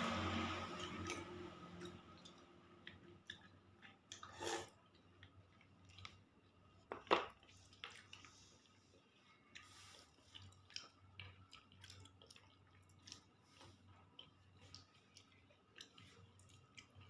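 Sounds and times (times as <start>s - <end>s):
person chewing: 0.7s - 17.0s.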